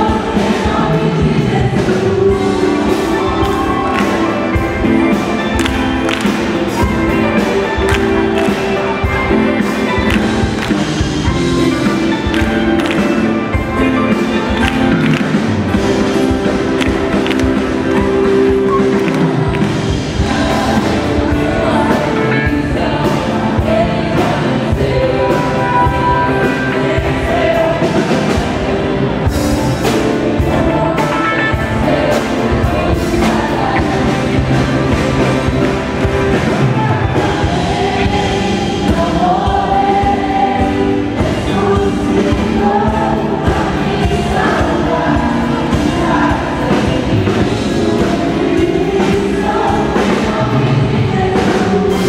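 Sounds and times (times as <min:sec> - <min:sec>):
full band playing: 0:00.0 - 0:52.0
voices singing together: 0:00.0 - 0:52.0.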